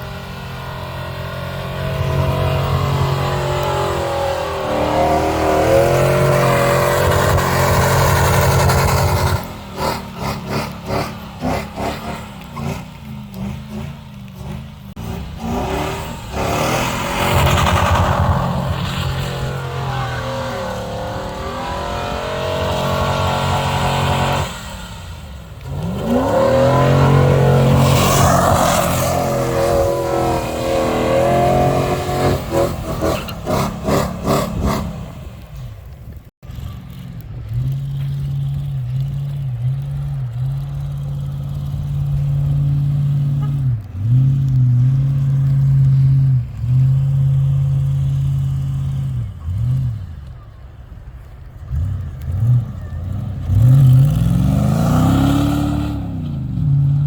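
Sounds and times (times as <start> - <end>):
car engine revving: 0.0 - 35.4, 36.5 - 57.0.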